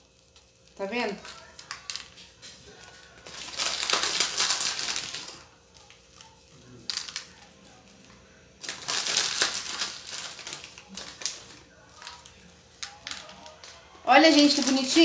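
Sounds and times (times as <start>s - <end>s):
dry potato sticks scattering: 0.0s - 15.0s
plastic bag crinkling: 0.0s - 15.0s.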